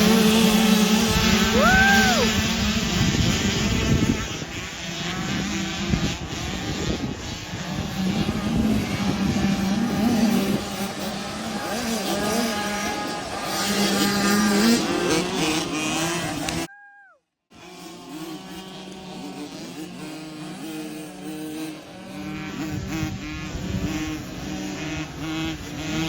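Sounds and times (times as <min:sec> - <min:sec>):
motocross bike engines revving: 0:00.0 - 0:16.7, 0:17.5 - 0:26.0.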